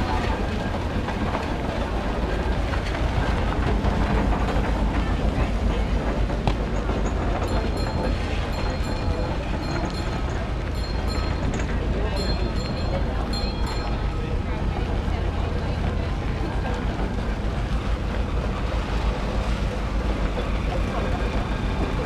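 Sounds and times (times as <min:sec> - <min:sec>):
steam roller rumbling on gravel: 0:00.0 - 0:22.0.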